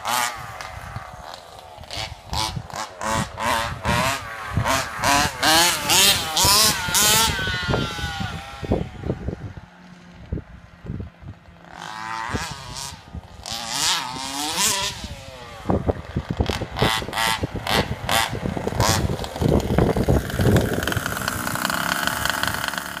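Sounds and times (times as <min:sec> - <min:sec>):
two-stroke engine revving: 0:00.0 - 0:09.6, 0:11.3 - 0:23.0.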